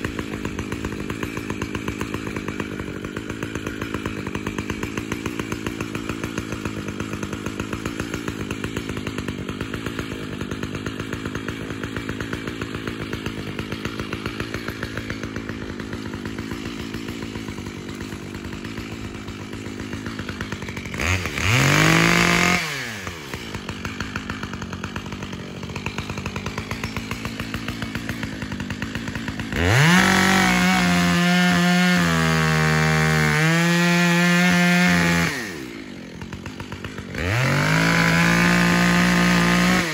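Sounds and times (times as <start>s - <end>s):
chainsaw cutting tree: 0.0s - 39.9s
chainsaw idling and revving: 0.0s - 39.9s.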